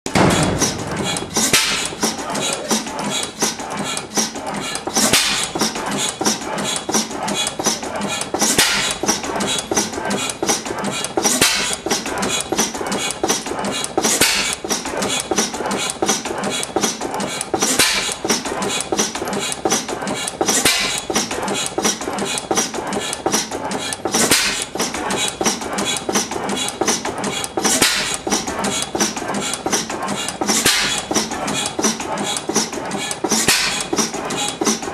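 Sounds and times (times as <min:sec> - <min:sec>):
stationary engine ticking and clatter: 0:00.1 - 0:34.9.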